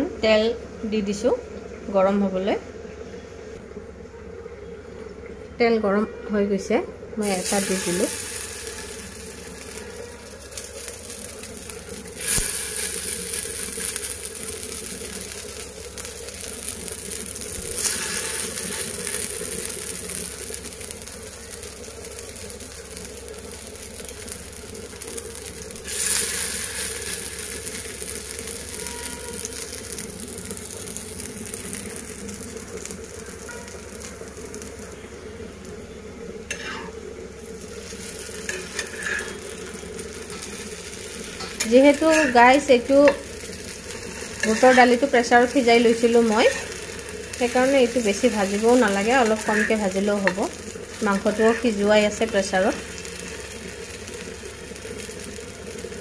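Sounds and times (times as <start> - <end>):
patties sizzling in oil: 0.0 - 56.0.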